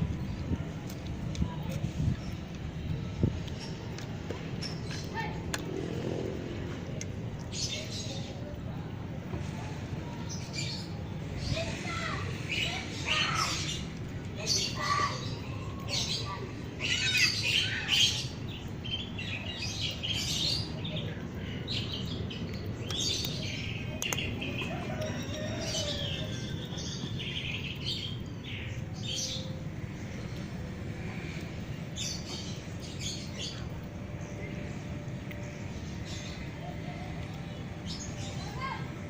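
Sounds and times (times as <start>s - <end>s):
low background noise: 0.0s - 39.0s
small birds chirping: 0.0s - 39.0s.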